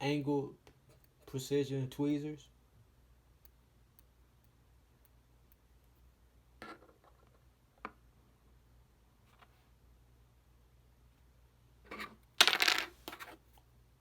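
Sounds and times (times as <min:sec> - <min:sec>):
faint room hum: 0:00.0 - 0:14.0.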